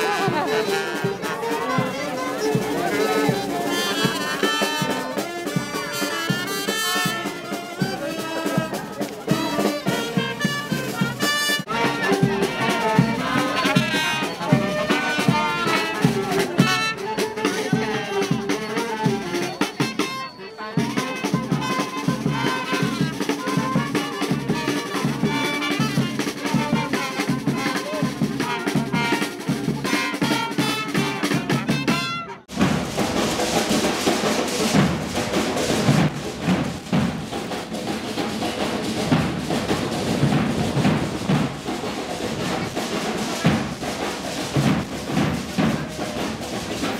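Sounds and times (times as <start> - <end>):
brass band playing fast tune: 0.0 - 46.9
drum corps drumming: 0.0 - 46.9.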